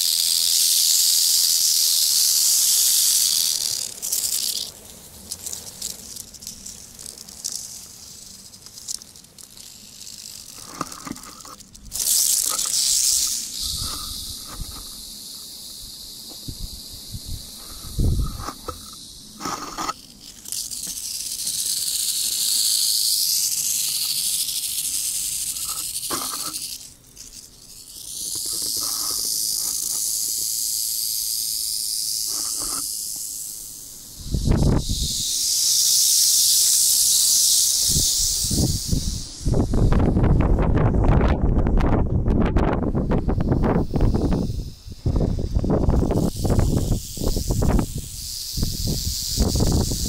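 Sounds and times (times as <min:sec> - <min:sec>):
rattlesnake tail rattling buzz: 0:00.0 - 0:50.0.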